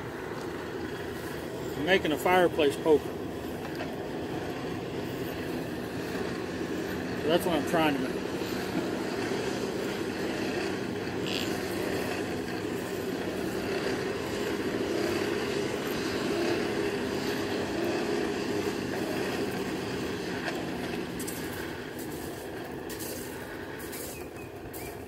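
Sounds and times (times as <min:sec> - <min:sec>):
forge blower rushing: 0:00.0 - 0:25.0.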